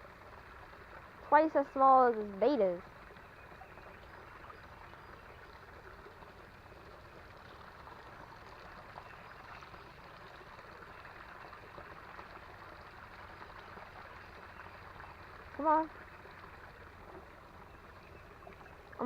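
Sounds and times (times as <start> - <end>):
creek running water: 0.0 - 19.0.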